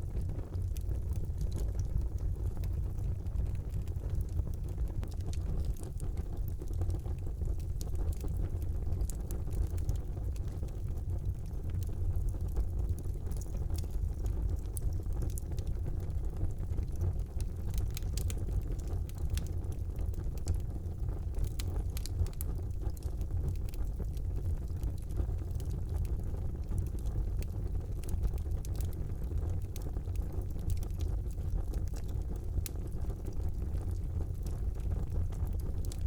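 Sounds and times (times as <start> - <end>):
fire crackling and popping: 0.0 - 36.0
fire flames rumbling: 0.0 - 36.0.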